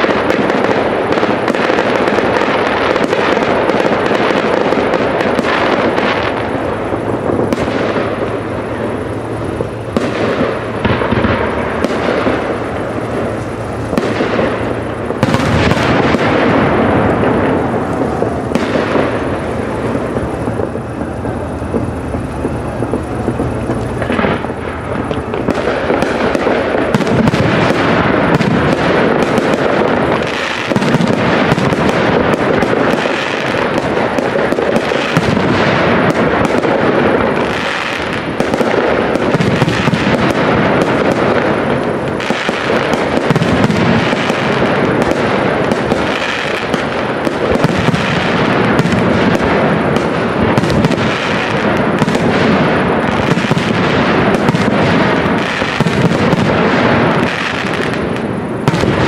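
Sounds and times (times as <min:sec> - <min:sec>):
distant firework bangs: 0:00.0 - 0:59.0
firework shells bursting: 0:00.0 - 0:59.0.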